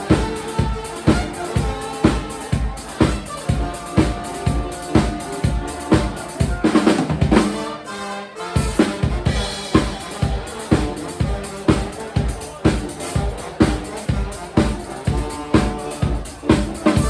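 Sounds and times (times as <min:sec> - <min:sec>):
drum kit beat: 0:00.0 - 0:07.9, 0:08.6 - 0:17.0
live rock band playing: 0:00.0 - 0:17.0.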